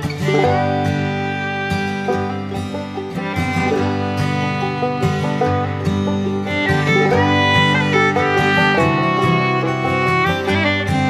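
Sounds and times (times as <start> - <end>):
plucked string instrumental music: 0.0 - 11.0.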